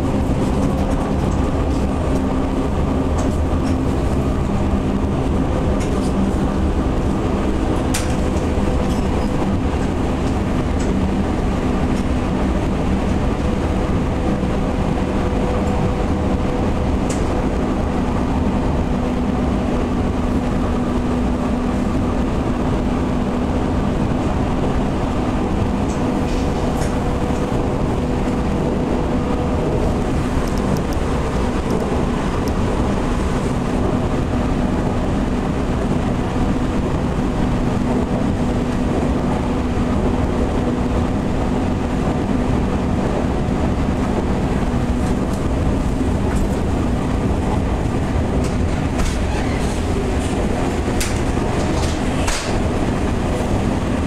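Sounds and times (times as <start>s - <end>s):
steady motor hum: 0.0s - 54.0s
wheels rumbling on rail: 0.0s - 54.0s.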